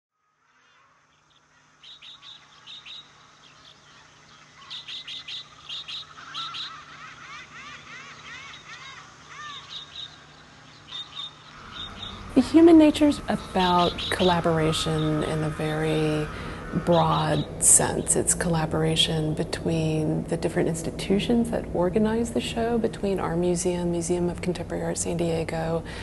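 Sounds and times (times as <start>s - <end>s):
birds chirping: 0.2s - 26.0s
faint steady low hum: 0.2s - 26.0s.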